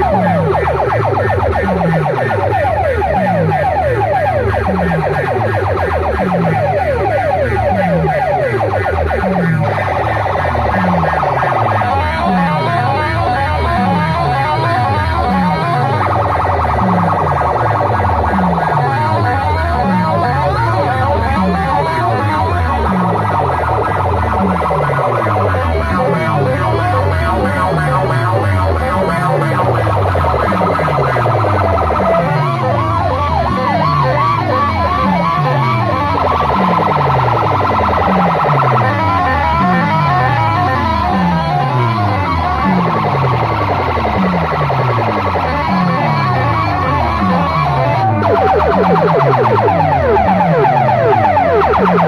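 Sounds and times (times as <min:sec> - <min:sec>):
falling bass sweep: 0:00.0 - 0:52.0
siren-like synth line: 0:00.0 - 0:52.0.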